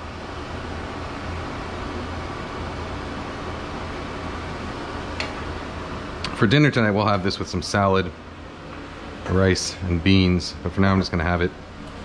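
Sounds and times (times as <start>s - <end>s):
fan whooshing: 0.0s - 12.0s.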